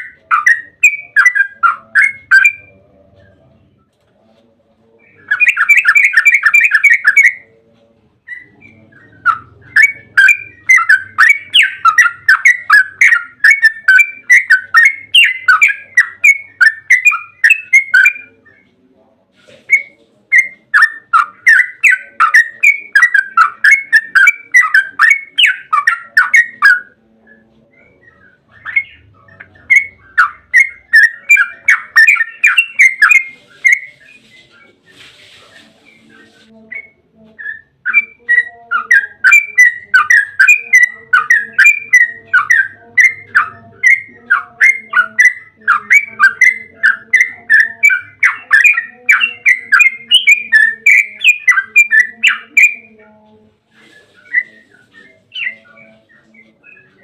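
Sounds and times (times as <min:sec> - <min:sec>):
bird singing chattering song: 0:00.0 - 0:03.9, 0:04.9 - 0:57.0.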